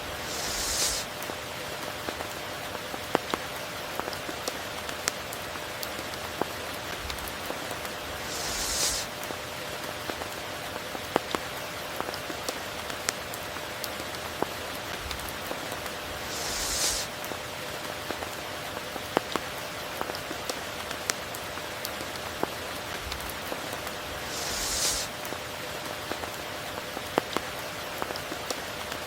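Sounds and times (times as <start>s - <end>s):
steady rain falling: 0.0s - 29.0s
raindrops ticking: 0.2s - 25.4s.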